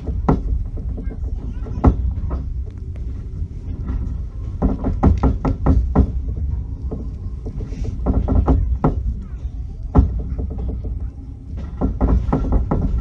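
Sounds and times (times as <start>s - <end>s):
train rumble inside carriage: 0.0s - 13.0s
train wheels clacking over joints: 0.0s - 13.0s.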